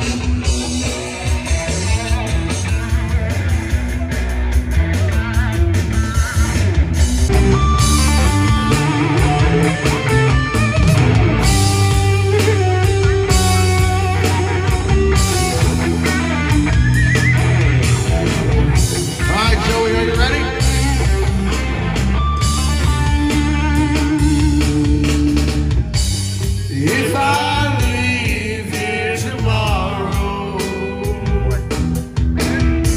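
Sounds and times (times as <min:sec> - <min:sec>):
bass guitar: 0:00.0 - 0:32.9
drum kit: 0:00.0 - 0:32.9
electric guitars: 0:00.0 - 0:32.9.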